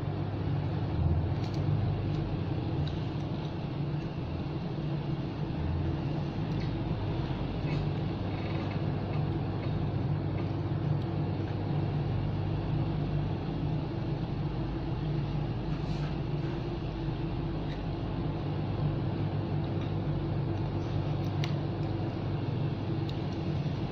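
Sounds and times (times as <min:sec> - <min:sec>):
low machine hum with tones: 0:00.0 - 0:23.9.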